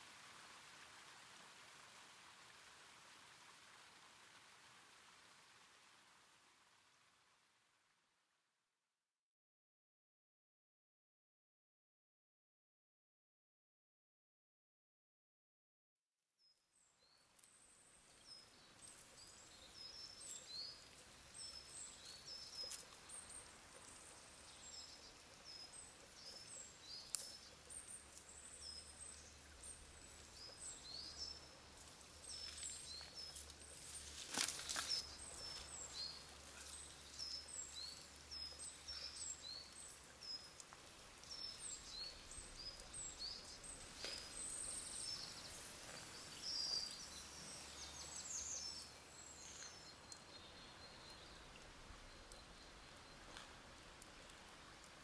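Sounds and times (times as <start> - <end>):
rustle: 0.0 - 8.2, 16.7 - 55.0
soft hiss: 0.0 - 8.5, 16.8 - 55.0.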